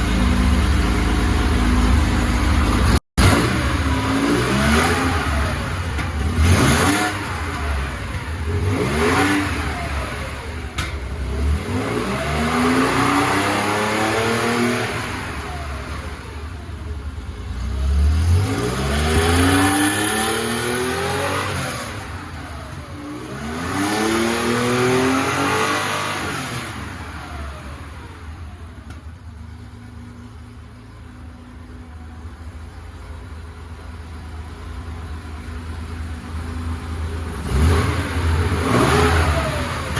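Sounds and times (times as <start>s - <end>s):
engine revving and idling: 0.0s - 39.9s.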